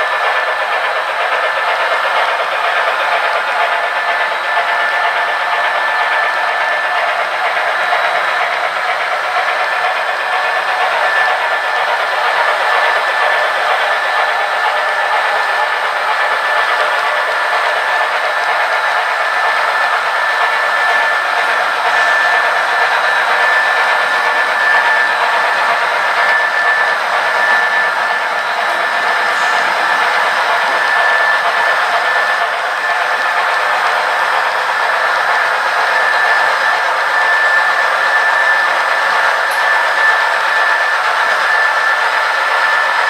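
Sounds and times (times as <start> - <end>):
model train rushing noise: 0.0 - 43.0
thin high whine: 4.7 - 43.0.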